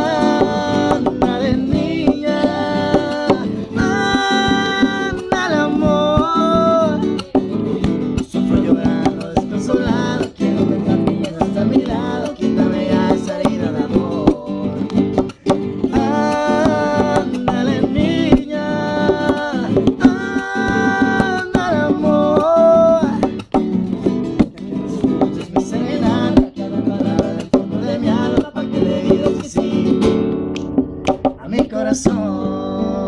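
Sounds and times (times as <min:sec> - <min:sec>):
man singing: 0:00.0 - 0:30.2, 0:31.2 - 0:33.0
acoustic guitar strumming: 0:00.0 - 0:33.0.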